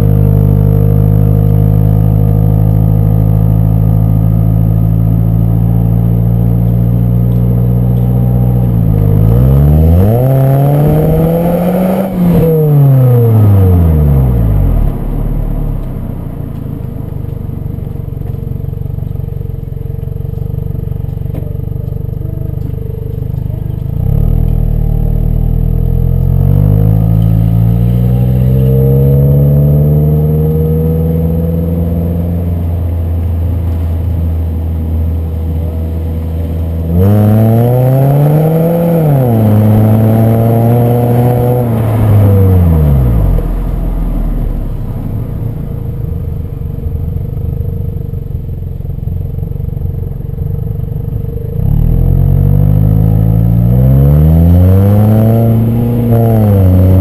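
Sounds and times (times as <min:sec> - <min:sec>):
car exhaust while driving: 0:00.0 - 0:57.0.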